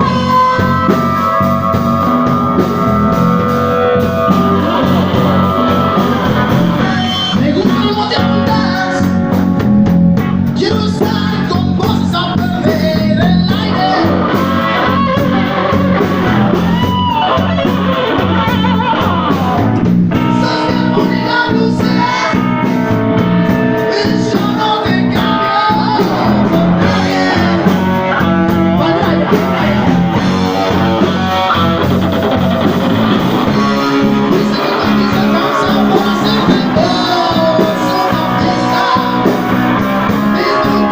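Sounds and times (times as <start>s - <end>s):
electric guitar bending notes: 0.0s - 40.9s
live blues rock band: 0.0s - 40.9s.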